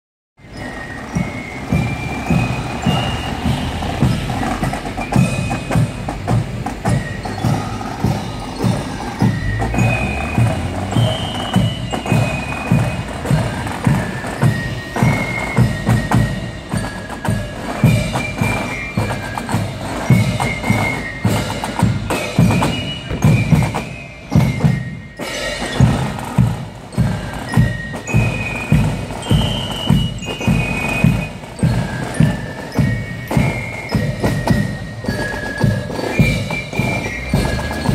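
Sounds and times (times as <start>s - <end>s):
drums keeping march beat: 0.4s - 37.9s
high melody of short notes: 0.4s - 37.9s
marching band playing a march: 0.4s - 37.9s.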